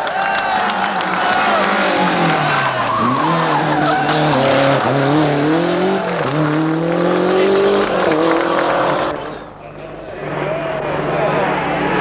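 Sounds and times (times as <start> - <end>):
rally car engine accelerating: 1.0 - 12.0.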